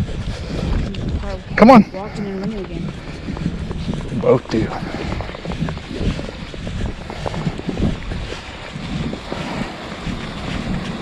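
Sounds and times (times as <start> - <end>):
footsteps in snow: 0.0 - 11.0
wind rumbling on microphone: 0.0 - 11.0.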